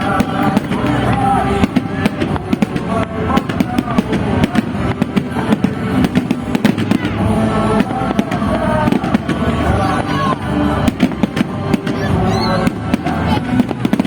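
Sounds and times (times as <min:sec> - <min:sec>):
fireworks bursting and crackling: 0:00.0 - 0:14.0
music playing: 0:00.0 - 0:14.0.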